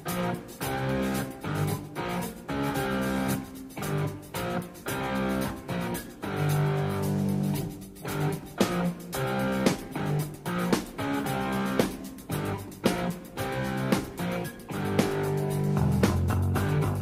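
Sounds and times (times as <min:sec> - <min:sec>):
instrumental music with plucked notes: 0:00.0 - 0:17.0.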